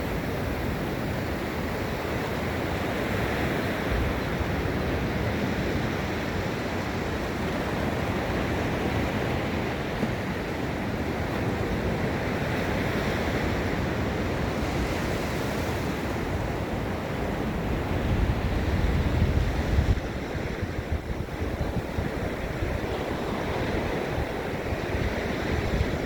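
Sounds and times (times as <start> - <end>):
surf washing onto beach: 0.0 - 26.0
wind noise on microphone: 0.0 - 26.0.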